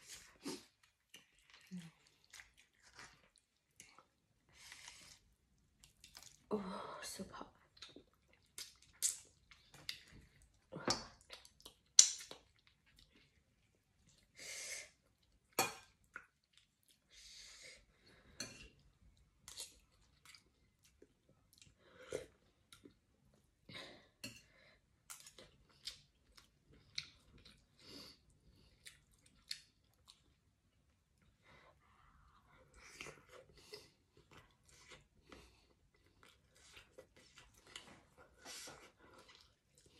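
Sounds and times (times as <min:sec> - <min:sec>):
person chewing food: 0:00.0 - 0:06.5, 0:07.6 - 0:14.4, 0:15.0 - 0:17.2, 0:17.8 - 0:39.9.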